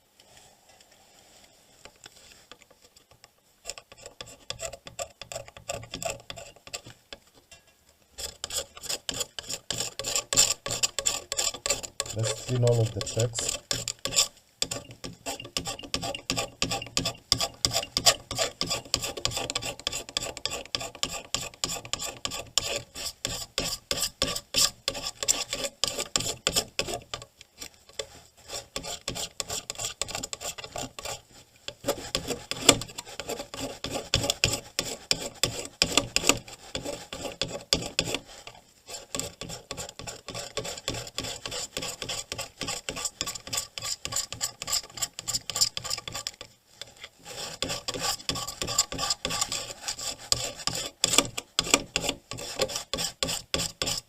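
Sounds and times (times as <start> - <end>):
scraping on circuit board: 3.6 - 6.9, 8.2 - 54.0.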